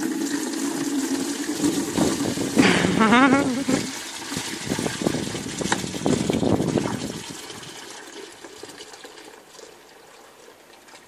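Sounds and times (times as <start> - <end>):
horse urine splashing into bucket: 0.0 - 11.0.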